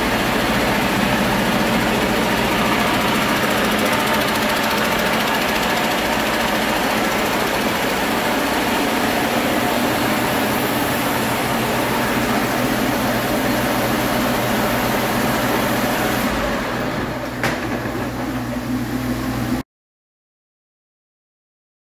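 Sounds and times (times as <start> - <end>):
diesel engine running: 0.0 - 19.6.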